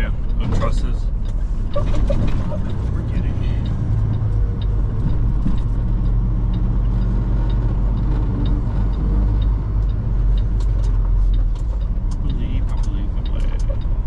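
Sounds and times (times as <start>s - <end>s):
diesel truck engine running: 0.0s - 14.0s
faint regular ticking: 0.0s - 14.0s.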